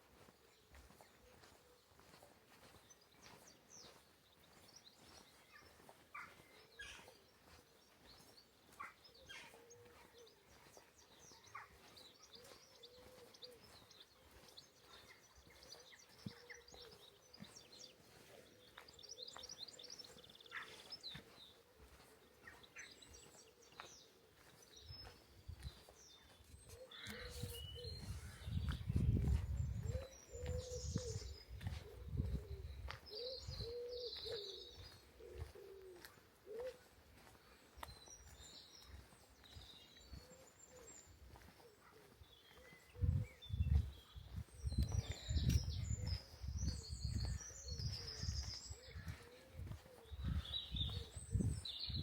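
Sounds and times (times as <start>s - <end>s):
small birds chirping and whistling: 0.2s - 52.0s.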